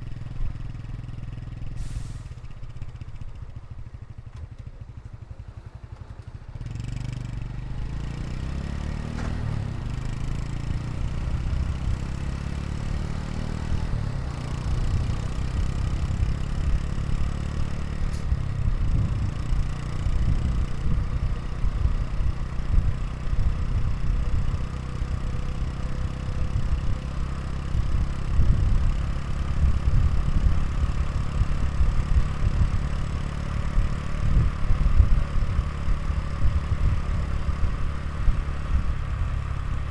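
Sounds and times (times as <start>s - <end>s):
motorcycle engine idling: 0.0s - 8.5s, 9.5s - 39.9s.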